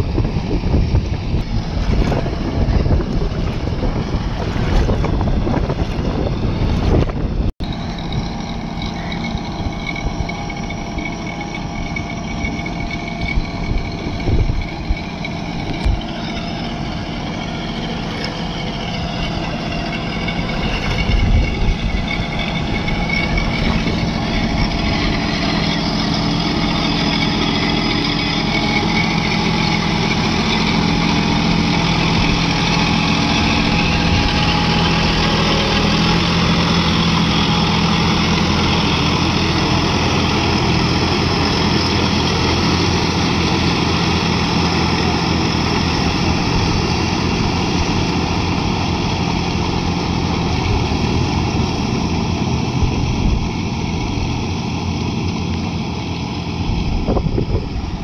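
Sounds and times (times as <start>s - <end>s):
tractor diesel engine running: 0.0s - 58.0s
tyres churning water and mud: 0.0s - 58.0s.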